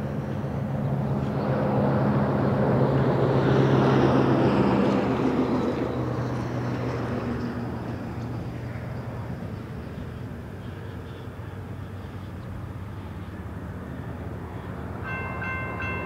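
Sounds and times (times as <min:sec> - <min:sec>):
diesel locomotive hum: 0:00.0 - 0:16.0.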